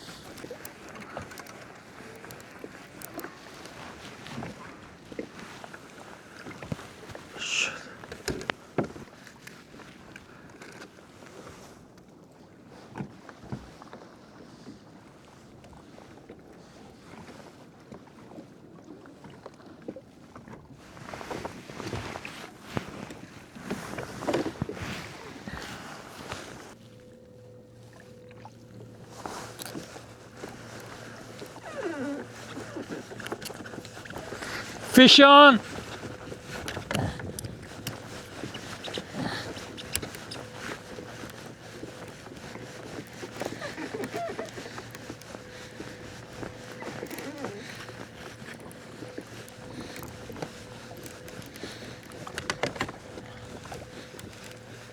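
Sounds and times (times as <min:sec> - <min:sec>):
water lapping against kayak hull: 0:00.0 - 0:54.9.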